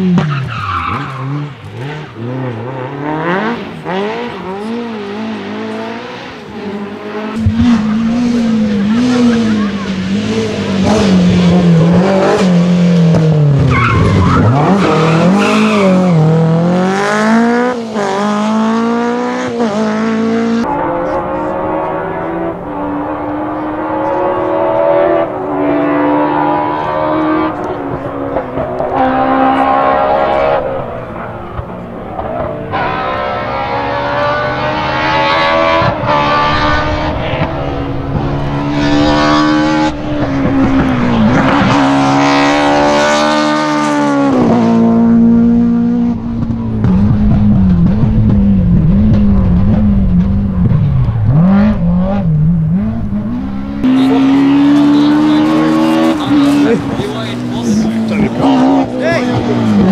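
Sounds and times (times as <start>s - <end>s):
rally car engines revving hard: 0.0s - 59.9s.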